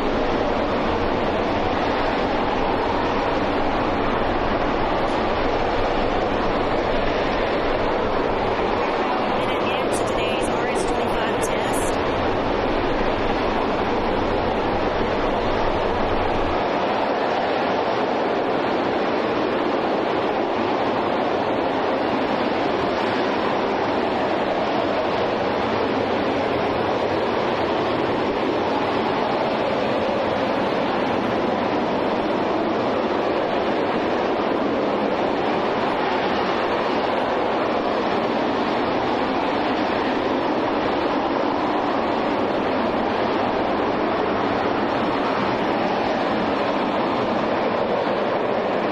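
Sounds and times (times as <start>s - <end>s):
rocket engine roar: 0.0s - 48.9s.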